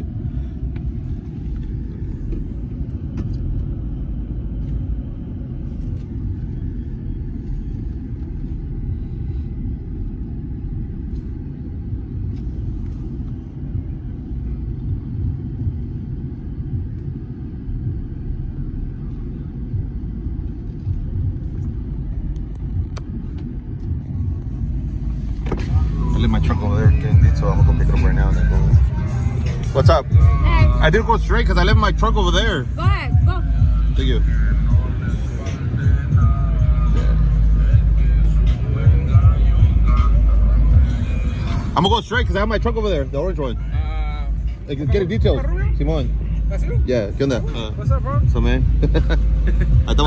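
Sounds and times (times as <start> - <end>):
motor vehicle rumbling: 0.0 - 50.0.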